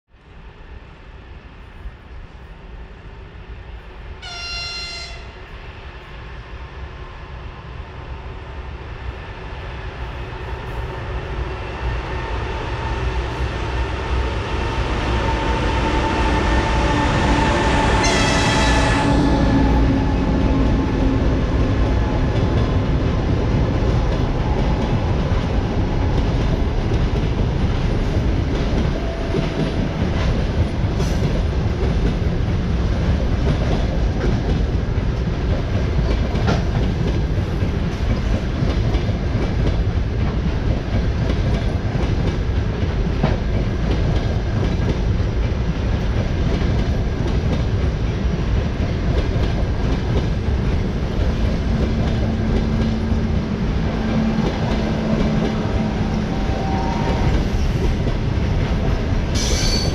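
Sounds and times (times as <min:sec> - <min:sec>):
train wheels rumbling on rail: 0:00.2 - 0:59.9.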